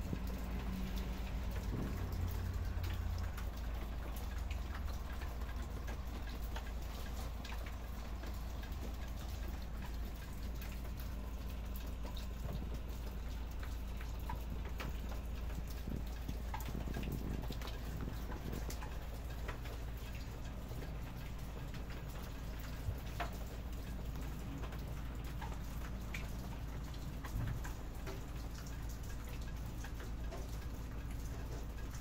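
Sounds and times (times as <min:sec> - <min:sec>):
raindrops ticking on surfaces: 0:00.0 - 0:32.0
steady rain: 0:00.0 - 0:32.0.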